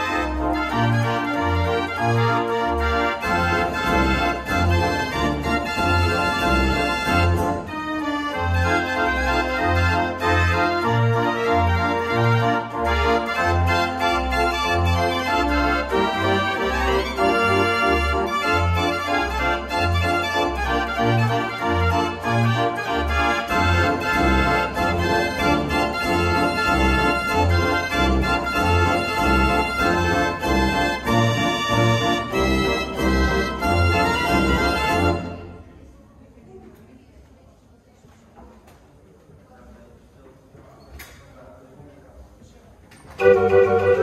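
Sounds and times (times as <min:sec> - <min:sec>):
street organ playing a tune: 0:00.0 - 0:35.6, 0:43.2 - 0:44.0.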